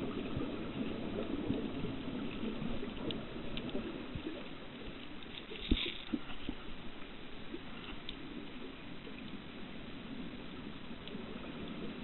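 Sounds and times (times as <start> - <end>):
water sloshing and lapping: 0.0 - 12.0.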